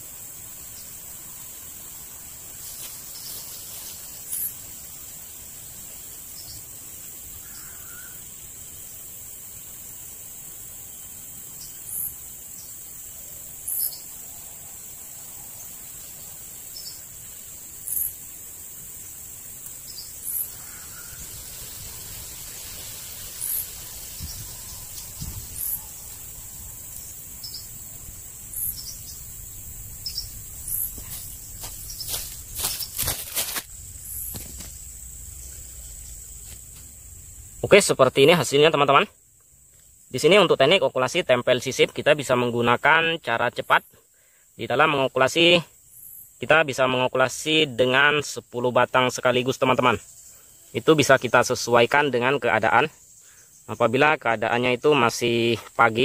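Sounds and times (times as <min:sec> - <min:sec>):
insects droning: 0:00.0 - 0:56.0
very high insect chirps: 0:00.0 - 0:56.0.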